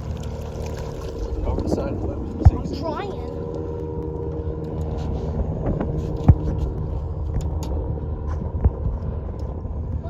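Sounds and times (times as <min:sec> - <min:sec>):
boat engine idling: 0:00.0 - 0:08.2.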